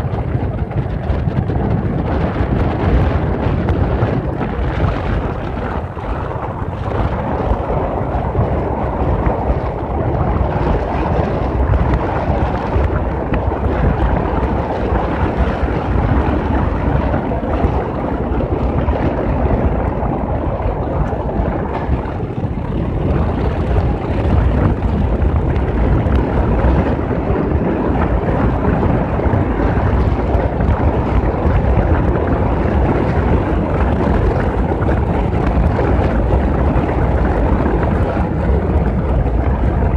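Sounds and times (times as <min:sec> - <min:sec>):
deep rumble: 0:00.0 - 0:39.9
wind buffeting microphone: 0:00.0 - 0:39.9.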